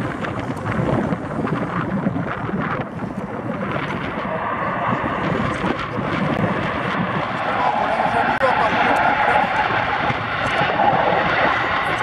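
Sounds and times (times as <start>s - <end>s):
jet aircraft engine noise: 0.0s - 12.0s
wind buffeting microphone: 0.0s - 12.0s.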